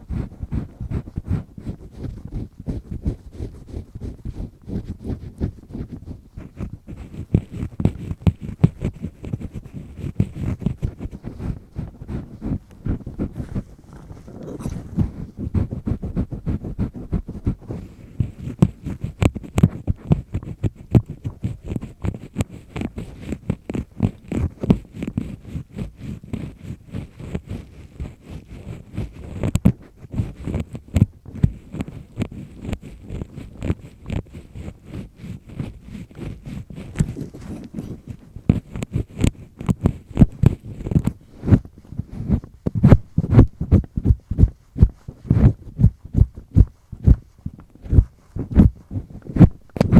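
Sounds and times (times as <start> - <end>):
earpick scraping inside ear: 0.0 - 49.9.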